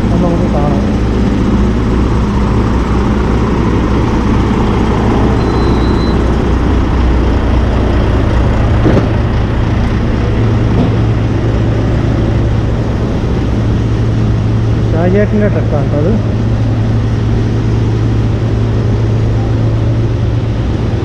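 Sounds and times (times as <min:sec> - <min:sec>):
heavy engine droning: 0:00.0 - 0:21.0.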